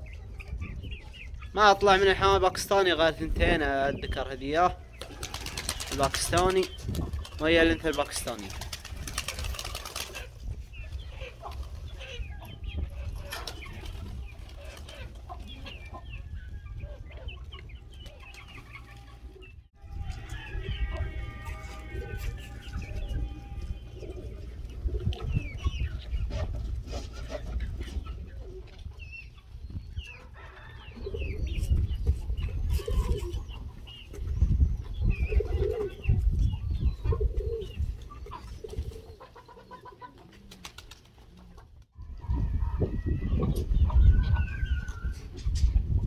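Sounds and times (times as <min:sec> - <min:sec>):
wind rumble on microphone: 0:00.0 - 0:04.9, 0:05.6 - 0:07.8, 0:10.3 - 0:18.1, 0:19.2 - 0:39.1, 0:42.0 - 0:46.0
pigeons cooing: 0:03.3 - 0:19.6, 0:20.5 - 0:41.5.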